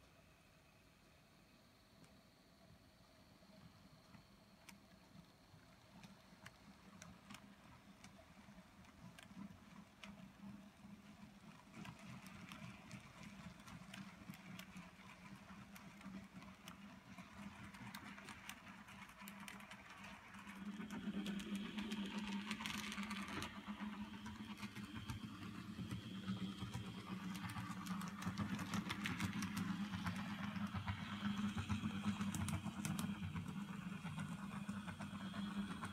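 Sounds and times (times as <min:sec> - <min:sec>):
model train motor hum: 0:03.6 - 0:35.9
wheels clicking on rails: 0:04.0 - 0:35.9.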